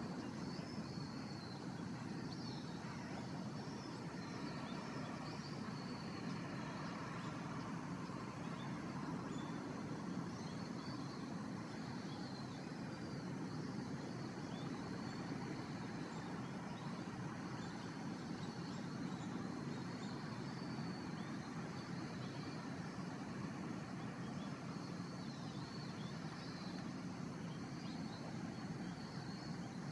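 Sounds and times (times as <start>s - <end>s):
distant engine drone: 0.0s - 29.9s.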